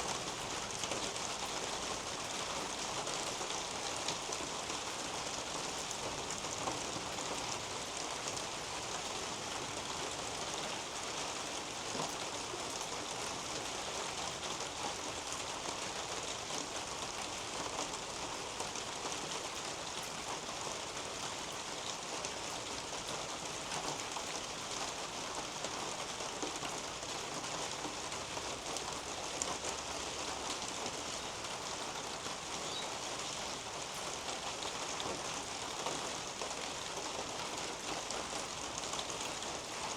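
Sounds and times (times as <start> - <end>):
rain on foliage: 0.0 - 39.9.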